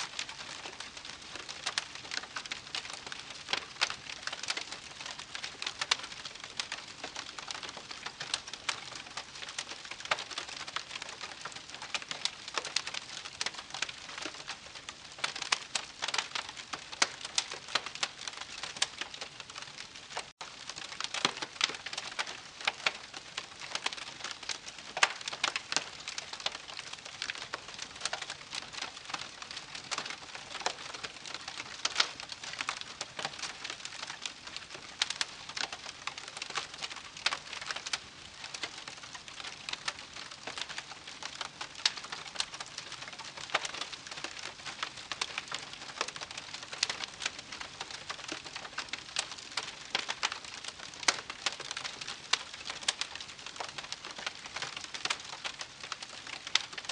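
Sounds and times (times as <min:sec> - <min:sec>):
campfire crackling: 0:00.2 - 0:56.9.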